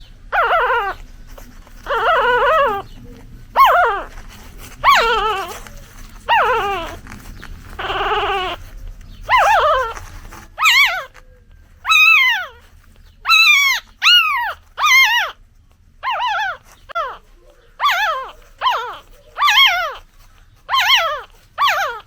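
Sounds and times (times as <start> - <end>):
puppy crying: 0.0 - 11.2, 11.8 - 15.4, 16.0 - 22.0.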